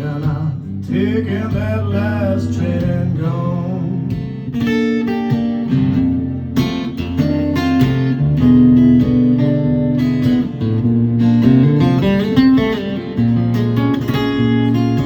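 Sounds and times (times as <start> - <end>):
acoustic blues guitar: 0.0 - 15.0.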